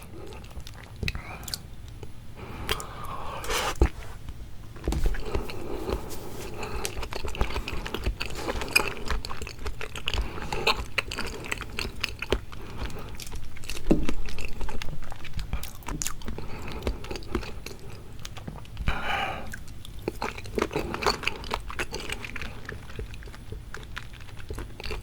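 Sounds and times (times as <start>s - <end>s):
wet chewing with sticky clicks: 0.0s - 2.9s, 4.8s - 25.0s.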